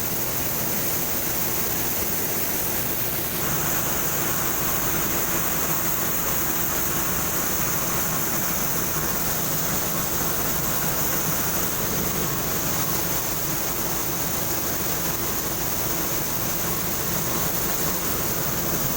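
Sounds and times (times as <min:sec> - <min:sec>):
separator machine running: 0:01.8 - 0:18.9
high hiss: 0:02.6 - 0:18.9
faint steady hum: 0:03.2 - 0:18.9.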